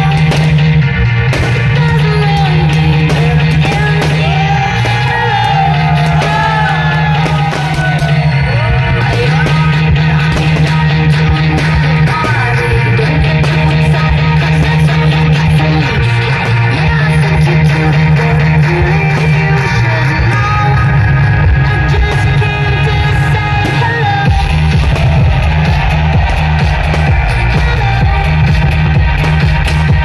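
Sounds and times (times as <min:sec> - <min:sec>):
rock music with singing: 0:00.0 - 0:30.0.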